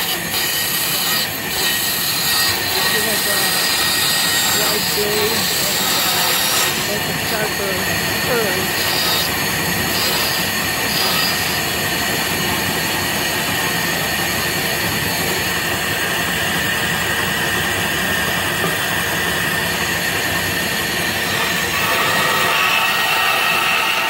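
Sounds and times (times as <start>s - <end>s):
bandsaw cutting plywood: 0.0s - 24.0s.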